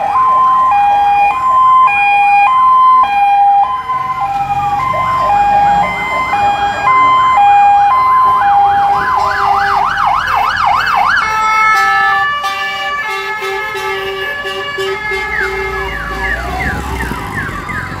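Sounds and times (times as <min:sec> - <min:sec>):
fire engine sirens: 0:00.0 - 0:18.0
truck engine rumbling: 0:00.0 - 0:18.0.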